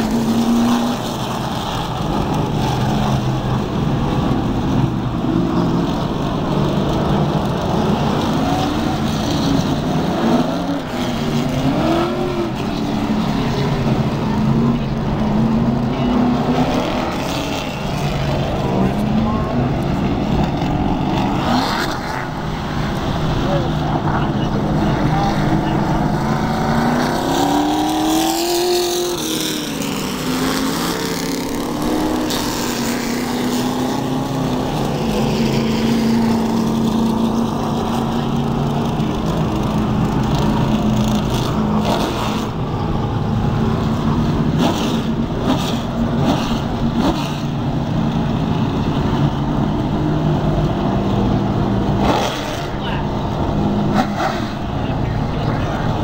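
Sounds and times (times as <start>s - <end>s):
race car engines passing: 0.0s - 56.0s.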